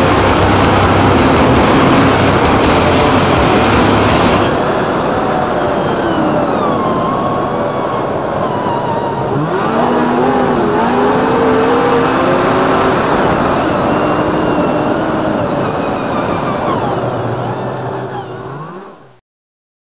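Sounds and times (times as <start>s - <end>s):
snowmobile engine running: 0.0s - 19.2s.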